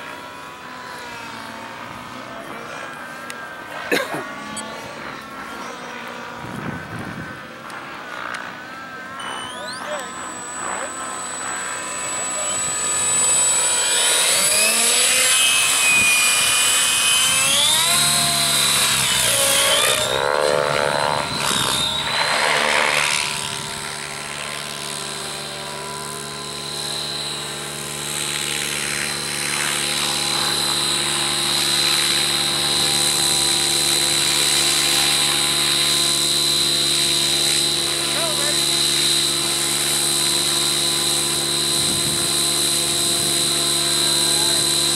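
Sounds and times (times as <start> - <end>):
rc helicopter rotor whine: 0.0 - 44.9.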